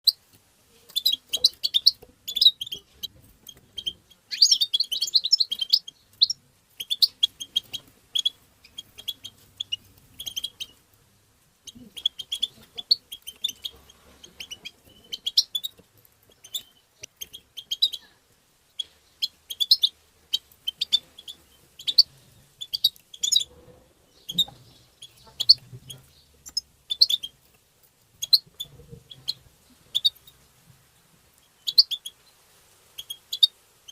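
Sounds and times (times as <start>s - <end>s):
goldfinch chirping and twittering: 0.9s - 10.8s, 11.7s - 18.1s, 18.8s - 23.5s, 24.1s - 27.4s, 28.2s - 30.3s, 31.6s - 32.2s, 33.0s - 33.9s.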